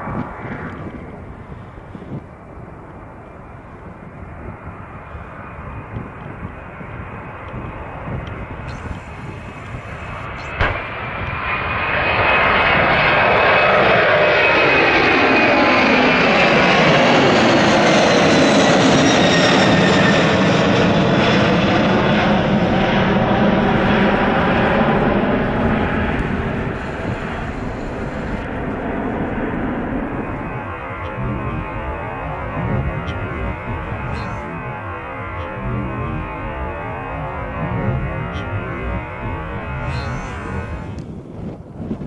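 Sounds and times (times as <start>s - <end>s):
jet engine whine falling in pitch: 0.0s - 42.0s
jet engines roaring: 0.0s - 42.0s.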